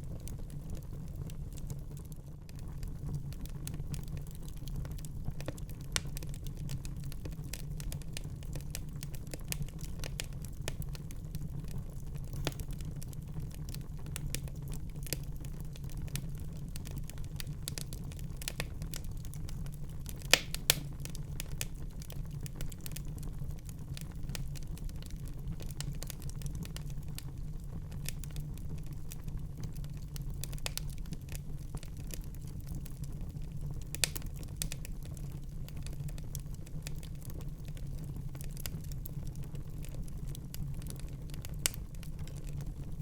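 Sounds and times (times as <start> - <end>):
wood fire crackling and popping: 0.0 - 43.0.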